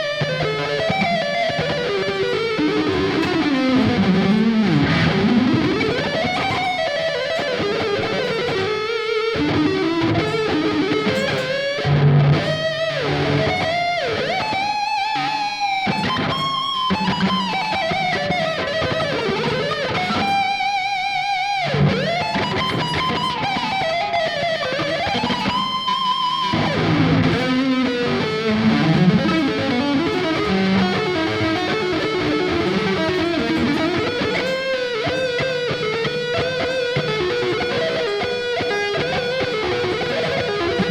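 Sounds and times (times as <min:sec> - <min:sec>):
electric guitar lead with bends: 0:00.0 - 0:40.9.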